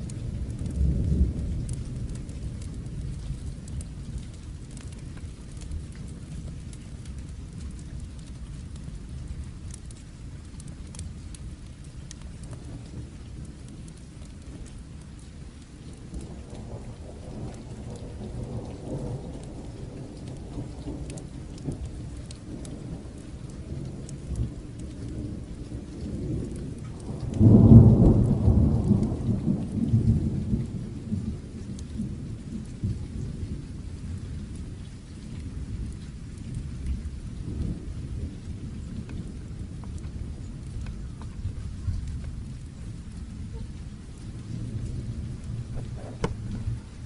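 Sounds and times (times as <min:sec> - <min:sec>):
thunder rumbling: 0:00.0 - 0:09.7, 0:10.4 - 0:15.2, 0:15.8 - 0:47.0
steady rain: 0:00.0 - 0:47.0.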